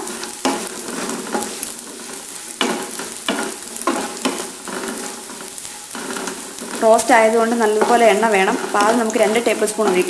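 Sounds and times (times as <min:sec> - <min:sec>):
coconut frying in oil: 0:00.0 - 0:10.0
spatula scraping pan: 0:00.0 - 0:10.0.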